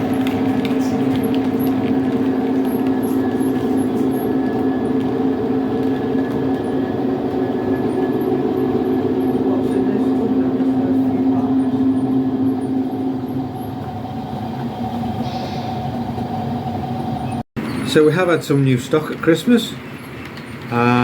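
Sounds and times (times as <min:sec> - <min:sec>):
model locomotive humming: 0:00.0 - 0:21.0.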